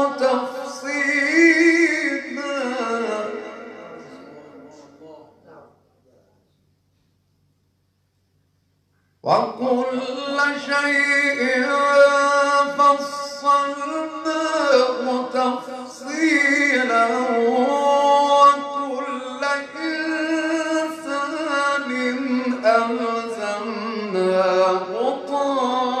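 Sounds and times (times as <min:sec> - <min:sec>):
man reciting melodically: 0:00.0 - 0:05.8, 0:09.2 - 0:26.0.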